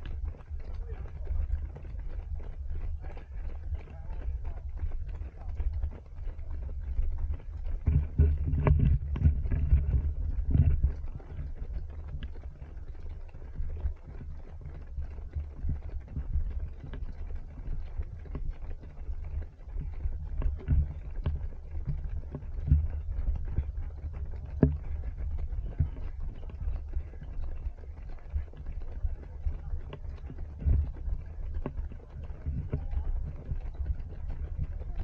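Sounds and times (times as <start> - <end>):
low wind rumble: 0.0 - 35.0
running footfalls: 0.0 - 35.0.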